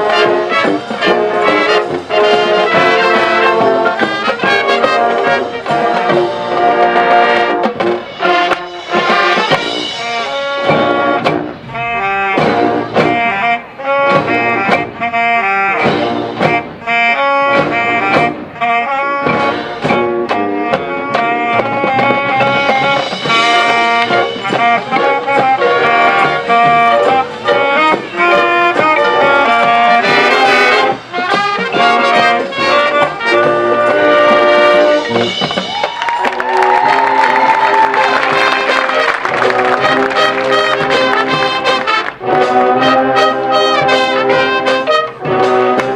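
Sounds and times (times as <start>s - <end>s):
marching band playing brass chords: 0.0s - 45.9s.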